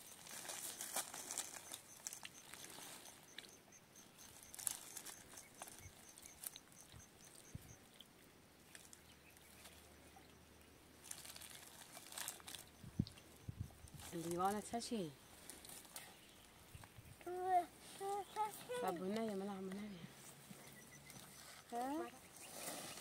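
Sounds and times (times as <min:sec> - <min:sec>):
dry grass rustling by hand: 0:00.0 - 0:07.5, 0:11.0 - 0:17.1, 0:17.8 - 0:23.0
faint high chirp: 0:00.0 - 0:08.0, 0:08.7 - 0:17.0, 0:18.0 - 0:23.0.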